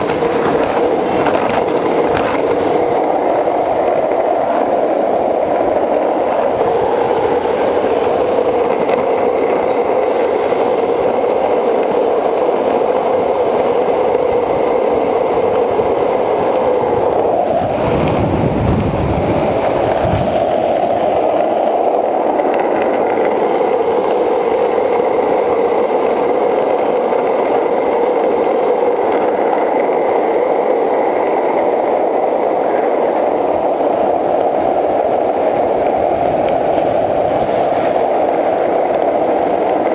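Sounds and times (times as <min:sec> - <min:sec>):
skateboard wheels rolling on asphalt: 0:00.0 - 0:39.9.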